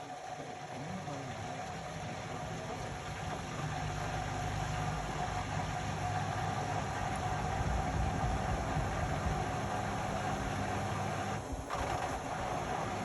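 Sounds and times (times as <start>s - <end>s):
washing machine hum with whine: 0.0s - 13.0s.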